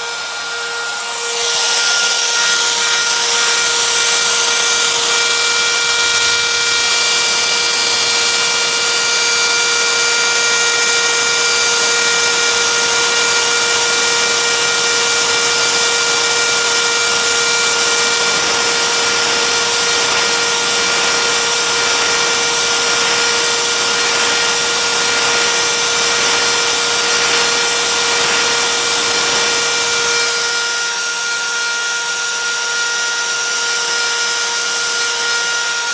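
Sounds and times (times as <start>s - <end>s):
cnc router spindle whine: 0.0s - 35.9s
bit carving wood hiss: 1.4s - 30.2s.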